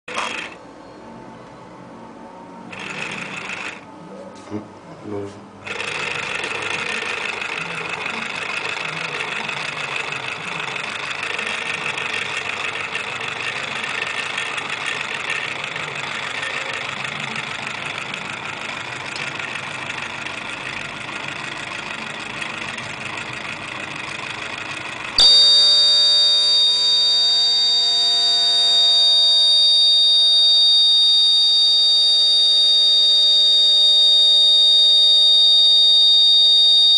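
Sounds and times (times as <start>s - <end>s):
model train motors running: 0.1s - 0.6s, 2.7s - 3.8s, 5.6s - 36.9s
electronic buzzer alarm: 2.7s - 3.9s, 5.7s - 23.5s, 24.1s - 36.9s.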